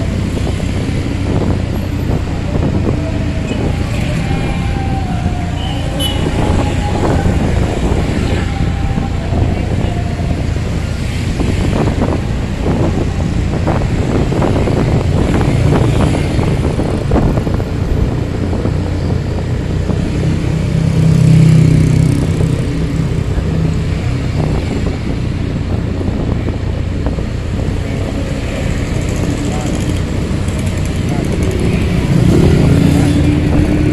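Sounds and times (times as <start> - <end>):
road traffic engine hum: 0.0 - 33.9.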